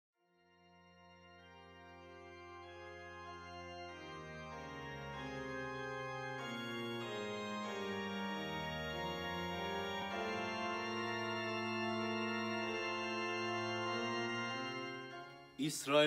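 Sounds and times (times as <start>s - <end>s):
sustained organ-like chords: 0.4s - 16.0s.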